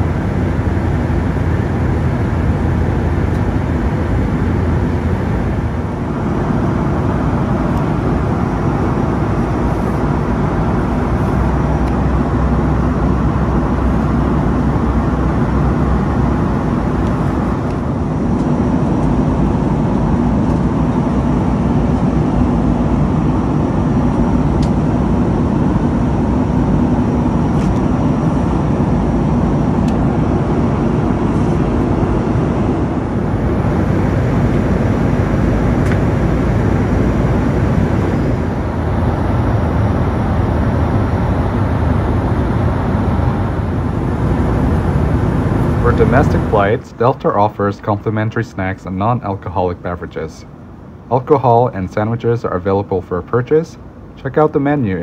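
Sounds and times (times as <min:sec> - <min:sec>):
airplane cabin roar: 0:00.0 - 0:55.0.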